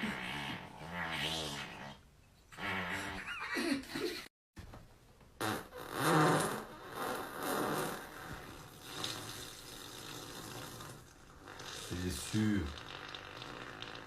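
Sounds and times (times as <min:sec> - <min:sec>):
man farting: 0:00.0 - 0:03.6, 0:05.4 - 0:14.0.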